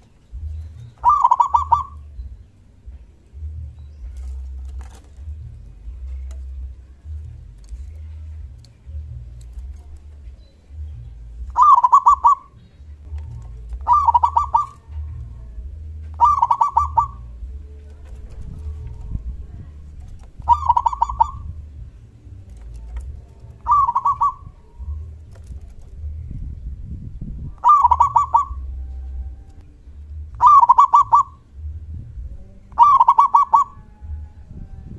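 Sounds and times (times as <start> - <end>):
dove cooing: 0.0 - 26.2, 27.4 - 29.6, 30.3 - 31.6, 32.7 - 34.9.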